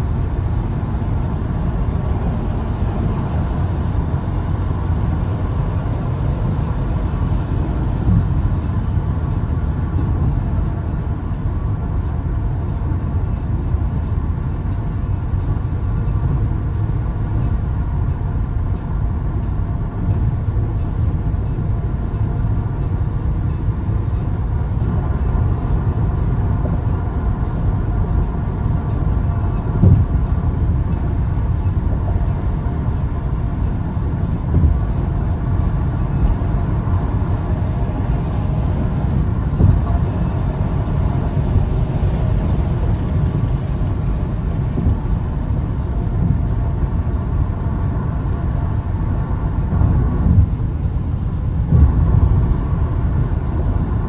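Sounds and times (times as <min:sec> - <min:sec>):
tyre and road rumble: 0:00.0 - 0:54.0.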